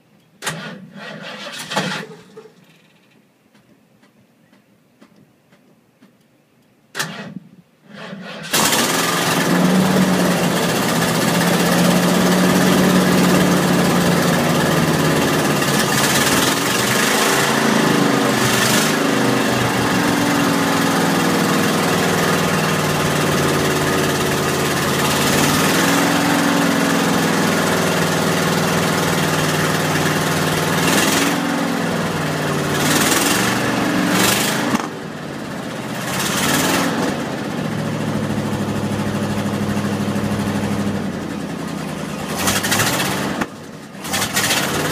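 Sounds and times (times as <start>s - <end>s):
truck engine revving: 7.9s - 44.9s.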